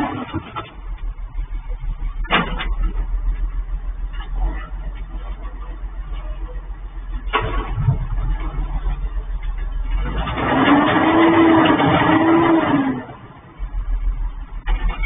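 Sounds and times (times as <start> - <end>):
garbage truck running: 0.0 - 15.0.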